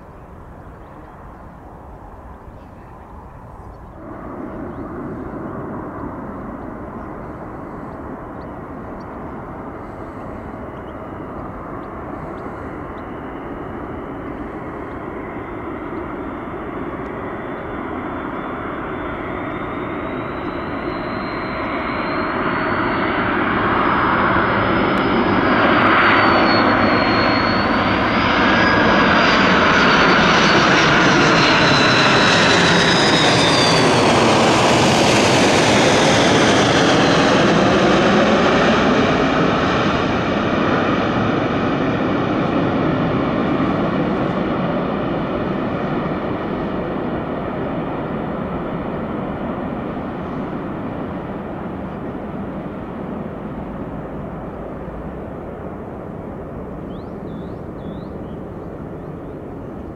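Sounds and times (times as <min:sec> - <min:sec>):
jet airliner engines whining: 0:00.0 - 0:59.9.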